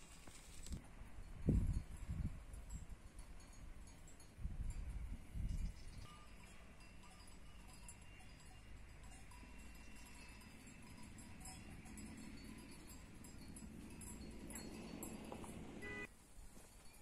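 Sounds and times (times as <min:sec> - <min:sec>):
sheep bells tinkling: 0:01.2 - 0:16.1, 0:16.7 - 0:17.0.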